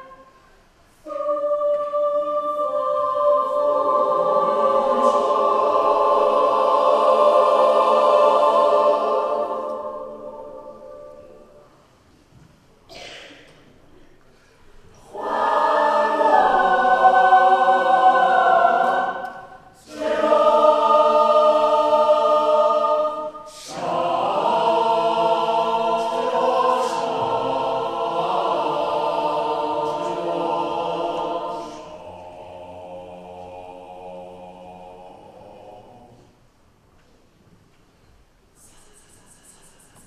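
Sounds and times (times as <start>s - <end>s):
mixed choir singing unaccompanied: 0.0s - 0.4s, 1.0s - 11.9s, 14.9s - 36.4s.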